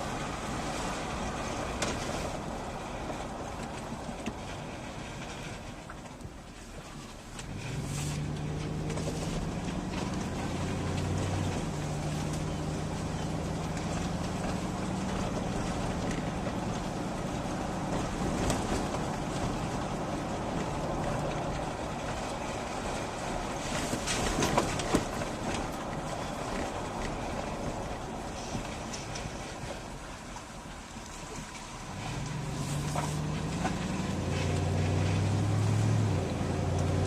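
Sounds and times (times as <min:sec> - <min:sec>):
road noise: 0:00.0 - 0:37.0
vehicle engine humming: 0:00.0 - 0:37.0.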